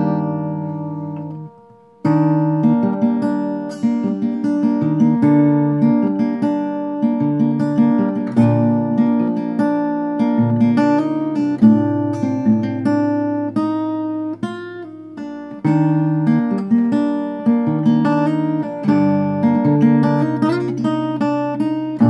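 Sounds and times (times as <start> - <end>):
fingerstyle acoustic guitar: 0.0 - 22.0.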